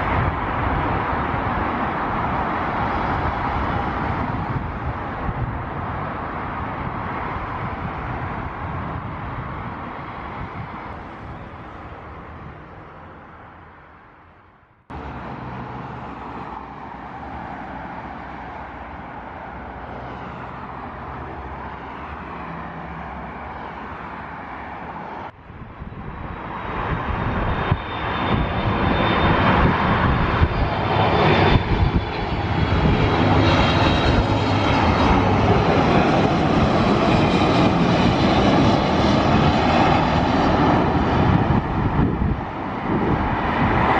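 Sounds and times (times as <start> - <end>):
jet airliner engines rumbling: 0.0 - 43.9
jet engine high whine: 0.0 - 43.9.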